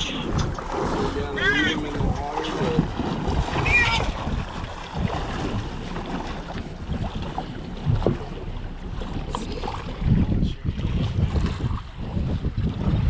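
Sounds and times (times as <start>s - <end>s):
water slapping against boat: 0.0s - 13.0s
wind on microphone: 0.0s - 13.0s.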